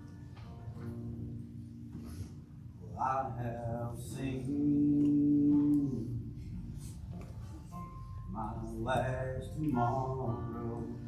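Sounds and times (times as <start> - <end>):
slow music with held notes: 0.0 - 11.0.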